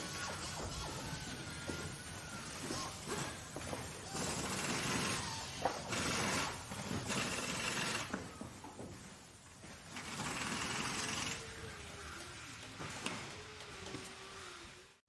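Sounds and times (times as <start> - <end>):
workshop machinery running: 0.0 - 15.0.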